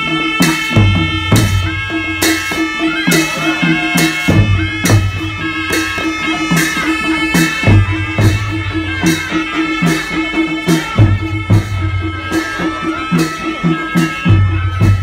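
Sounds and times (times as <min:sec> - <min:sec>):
barrel drums beating: 0:00.0 - 0:15.0
reed pipes playing melody: 0:00.0 - 0:15.0.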